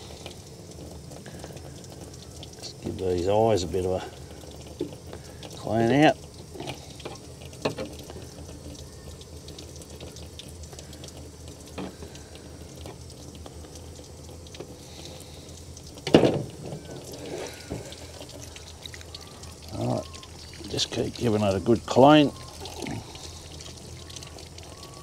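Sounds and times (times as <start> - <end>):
tap water running into sink: 0.0 - 25.0.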